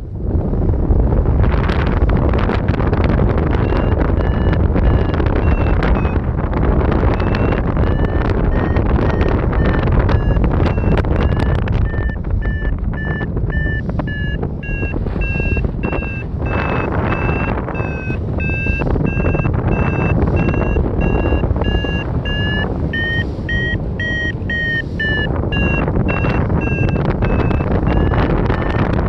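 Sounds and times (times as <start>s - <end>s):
wind noise on microphone: 0.0s - 29.0s
variometer beeping: 2.9s - 29.0s.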